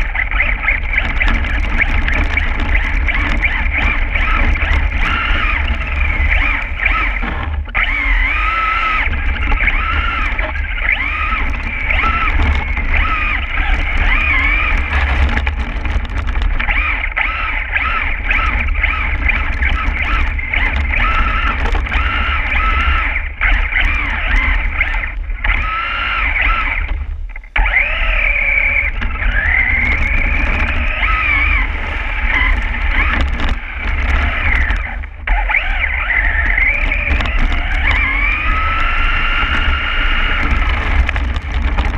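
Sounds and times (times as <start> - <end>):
electric motor and gears whining: 0.0 - 41.9
low rumble: 0.0 - 41.9.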